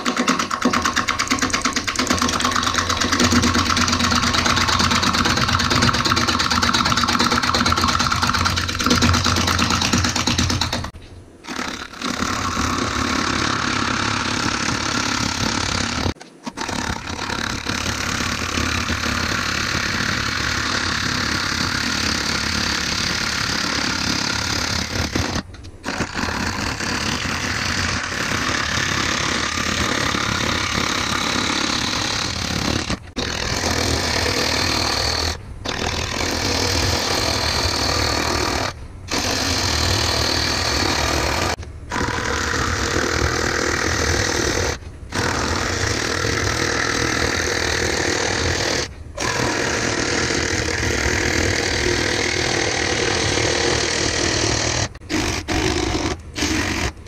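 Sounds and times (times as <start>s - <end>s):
turning tool scraping wood: 0.0s - 57.0s
wood lathe running: 0.0s - 57.0s.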